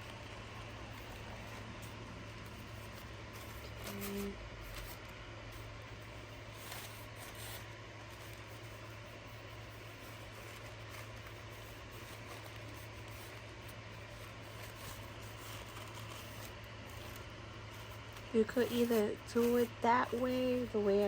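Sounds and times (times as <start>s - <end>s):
low electrical hum: 0.0s - 21.0s
paper napkin rustling: 0.0s - 21.0s.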